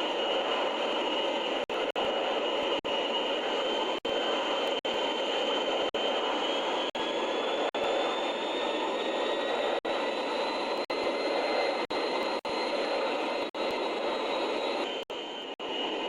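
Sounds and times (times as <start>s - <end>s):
aircraft engine rushing: 0.0s - 16.0s
high engine whine: 0.0s - 16.0s.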